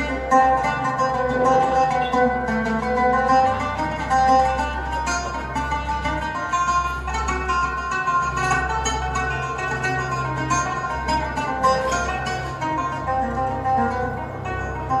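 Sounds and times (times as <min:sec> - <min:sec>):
plucked-string melody: 0:00.0 - 0:15.0
steady bass line: 0:00.0 - 0:15.0.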